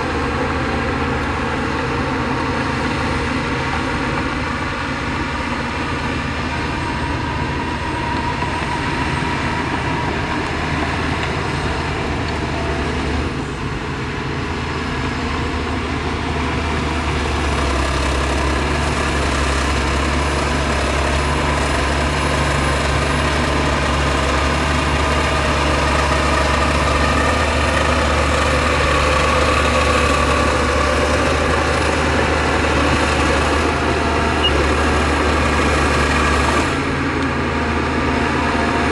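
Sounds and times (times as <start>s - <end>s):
heavy diesel engines droning: 0.0s - 38.9s.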